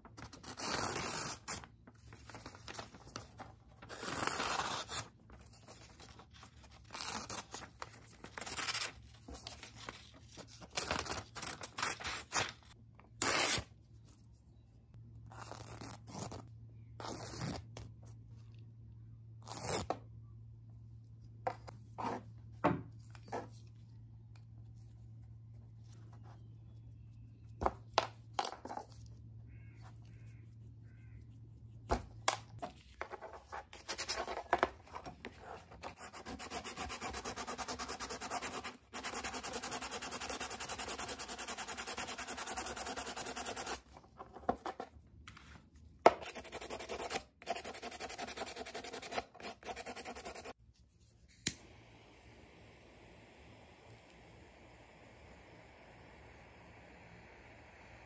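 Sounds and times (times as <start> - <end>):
faint low hum: 1.5 - 58.0.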